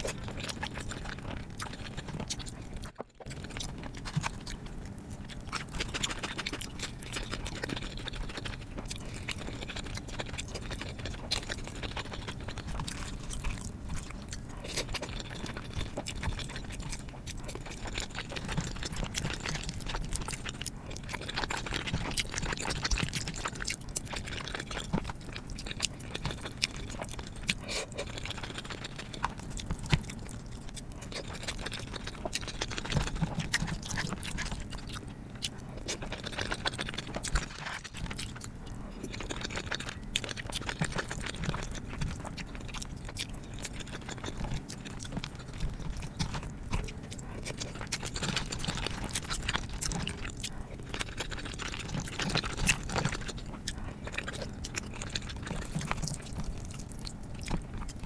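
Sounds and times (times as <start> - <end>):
chewing and wet mouth sounds: 0.0 - 58.0.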